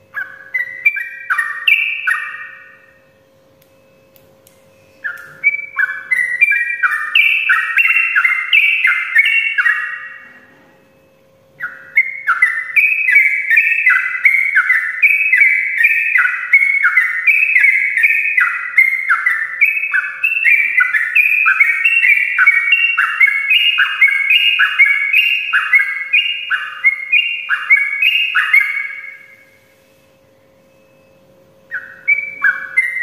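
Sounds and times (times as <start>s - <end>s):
bulbul singing bright notes: 0.0s - 33.0s
faint steady hum: 0.0s - 33.0s.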